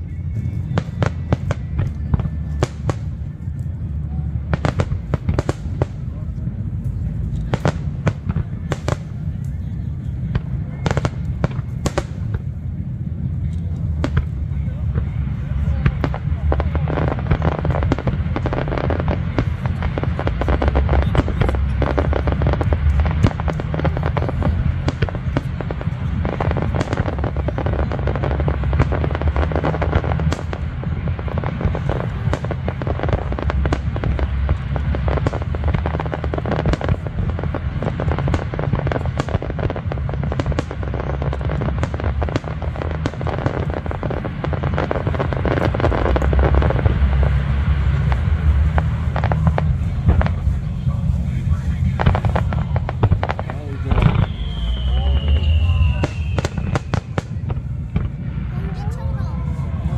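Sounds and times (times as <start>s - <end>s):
fireworks cracking and popping: 0.0s - 59.9s
steady low rumble: 0.0s - 59.9s.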